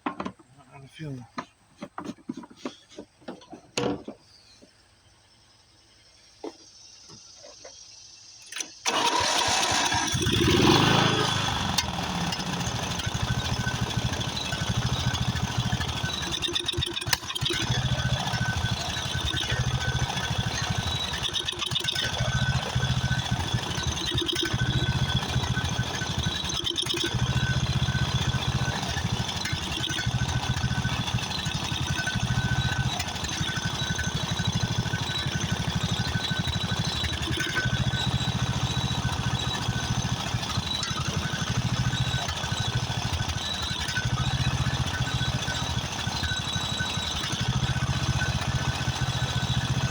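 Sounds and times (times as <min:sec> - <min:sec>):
mower engine running: 0:08.5 - 0:49.9.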